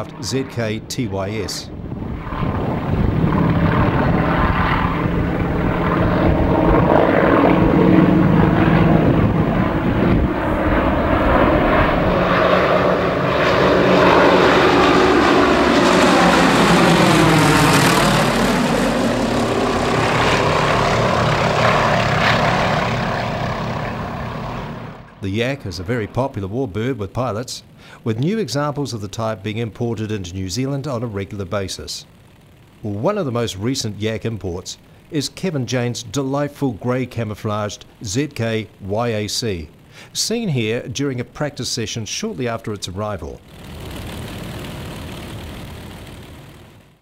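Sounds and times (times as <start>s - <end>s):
propeller plane engine: 0.0s - 47.0s.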